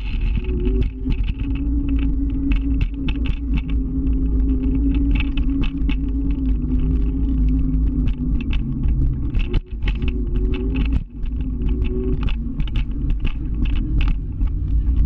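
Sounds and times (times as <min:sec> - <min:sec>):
motor scooter engine running: 0:00.0 - 0:15.0
rapid irregular clicks: 0:00.0 - 0:15.0.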